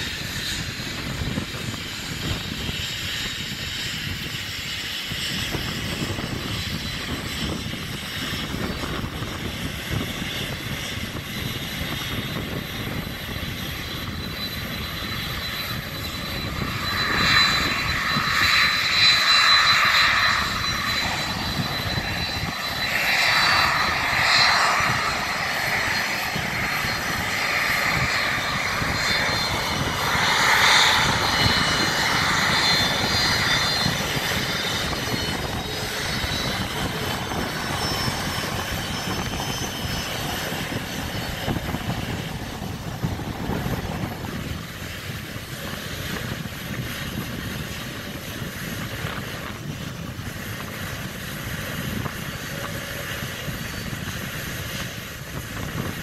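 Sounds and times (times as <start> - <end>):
jet engines rumbling with high whine: 0.0 - 56.0.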